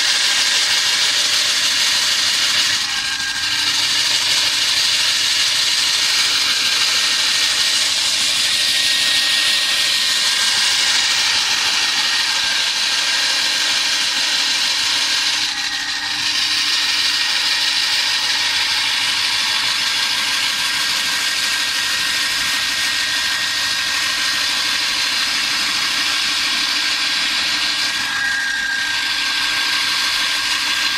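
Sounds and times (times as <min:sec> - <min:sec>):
core drill running: 0:00.0 - 0:30.9.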